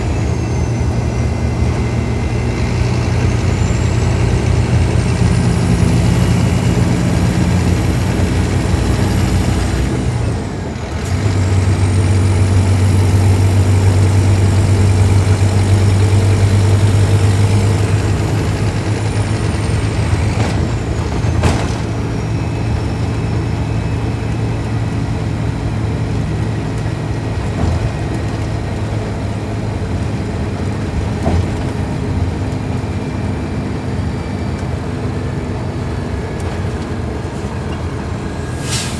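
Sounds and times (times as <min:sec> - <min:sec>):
bus diesel engine under load: 0:00.0 - 0:38.9.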